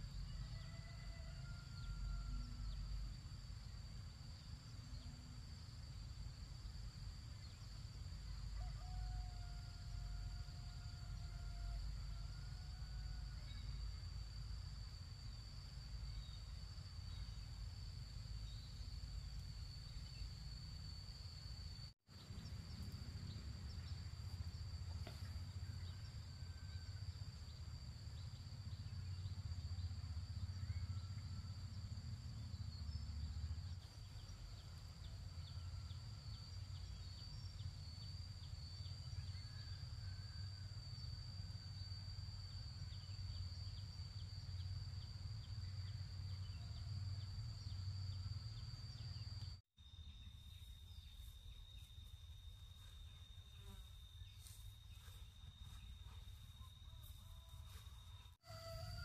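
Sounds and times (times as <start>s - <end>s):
insects singing drone: 0.0s - 59.0s.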